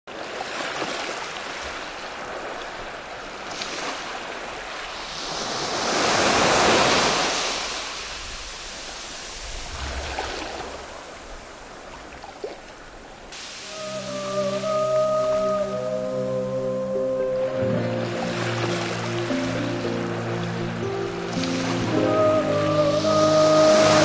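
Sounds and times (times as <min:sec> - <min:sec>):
ocean waves: 0:00.1 - 0:24.0.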